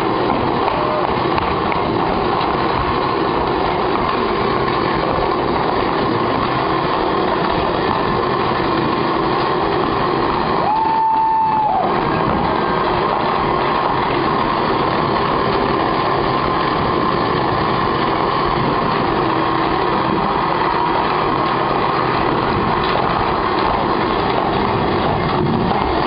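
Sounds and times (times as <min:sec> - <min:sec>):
sewing machines whirring: 0:00.0 - 0:26.0.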